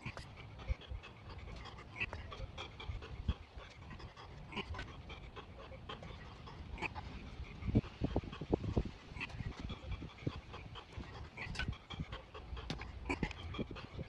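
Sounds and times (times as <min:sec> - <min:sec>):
rapid panting: 0:00.0 - 0:14.0.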